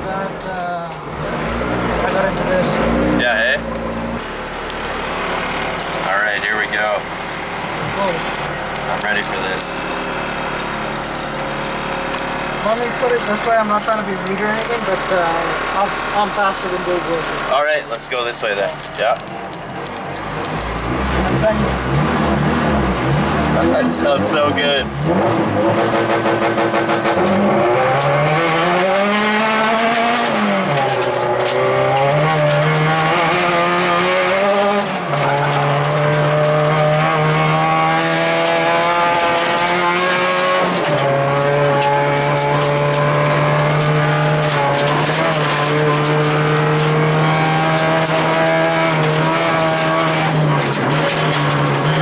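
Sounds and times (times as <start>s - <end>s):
car engine revving: 0.0s - 52.0s
tyre and road noise: 0.0s - 52.0s.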